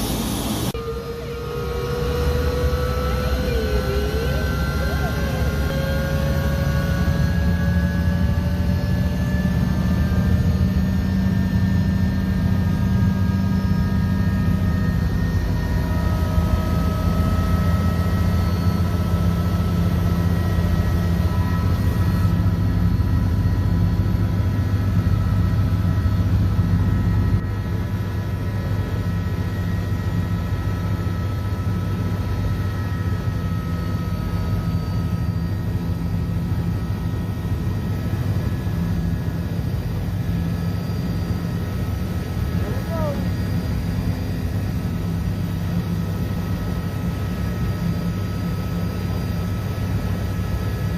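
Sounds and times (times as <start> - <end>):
helicopter rotor and engine drone: 0.0 - 50.9
high turbine whine: 0.0 - 50.9.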